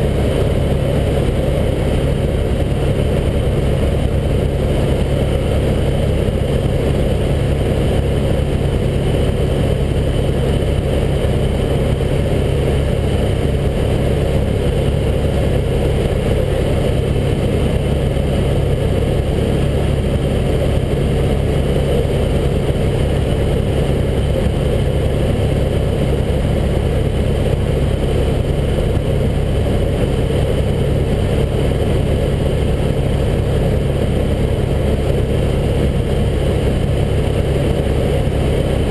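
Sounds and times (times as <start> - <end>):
helicopter engine and rotor hum: 0.0 - 38.9.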